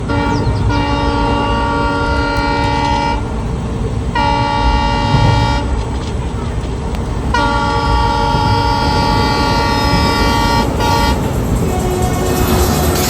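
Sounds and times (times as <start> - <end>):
train horn blasts: 0.0 - 3.5, 4.1 - 6.0, 7.3 - 13.0
low rumble: 0.0 - 13.0.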